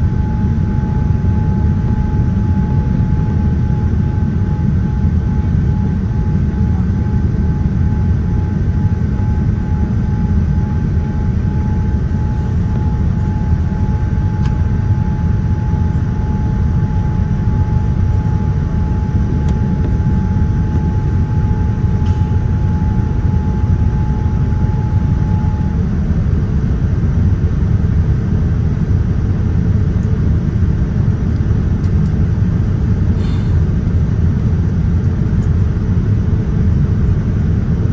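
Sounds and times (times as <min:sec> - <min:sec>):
jet engine and airflow roar: 0:00.0 - 0:37.9
thin steady whine: 0:00.0 - 0:37.9.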